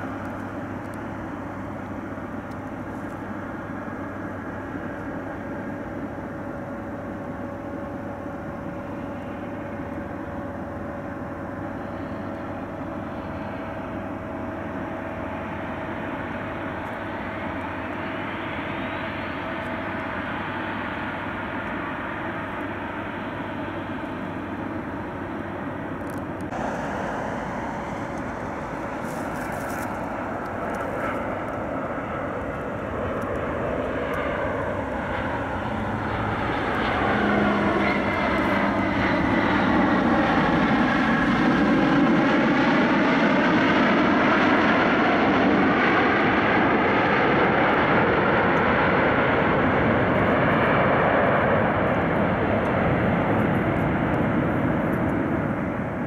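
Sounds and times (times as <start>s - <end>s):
jet engines of passing plane: 0.0s - 56.0s.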